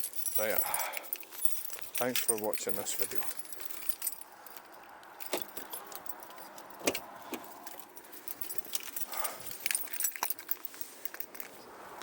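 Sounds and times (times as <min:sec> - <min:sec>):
handling clicks and knocks: 0:00.0 - 0:11.6
keys jingling: 0:00.0 - 0:11.7.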